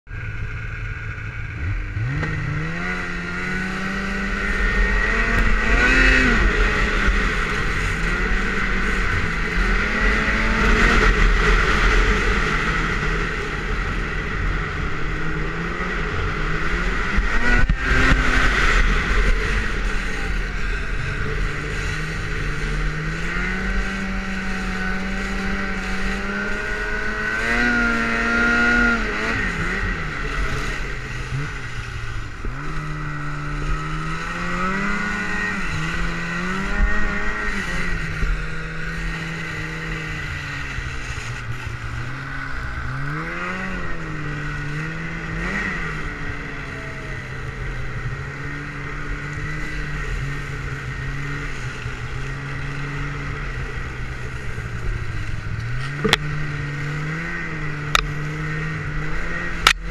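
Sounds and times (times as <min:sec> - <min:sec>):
steady high whine: 0:00.1 - 0:59.9
snowmobile engine revving: 0:00.2 - 0:59.9.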